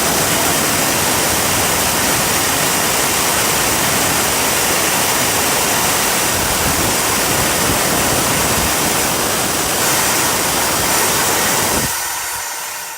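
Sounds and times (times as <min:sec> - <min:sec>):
jet engine running: 0:00.0 - 0:12.9.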